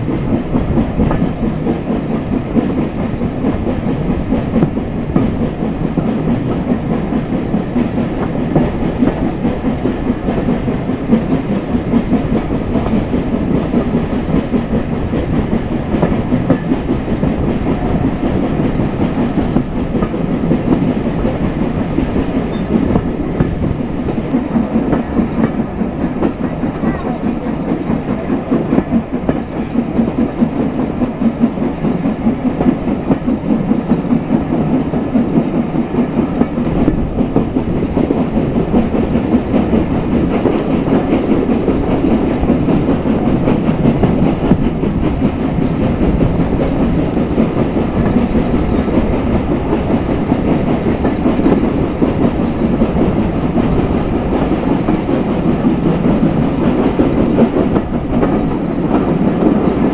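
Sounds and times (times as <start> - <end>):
steam locomotive chuffing: 0.0 - 59.9
train wheels clattering on rails: 0.0 - 59.9.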